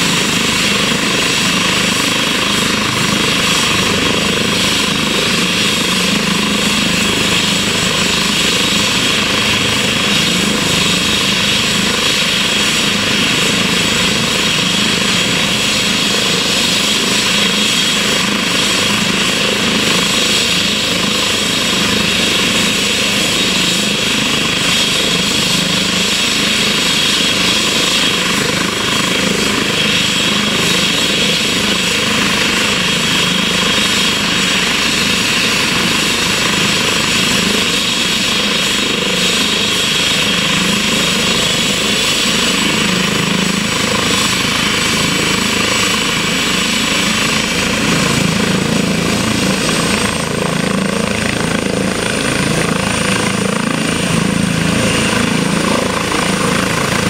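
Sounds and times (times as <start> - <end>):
helicopter turbine whine and rotor: 0.0 - 57.0.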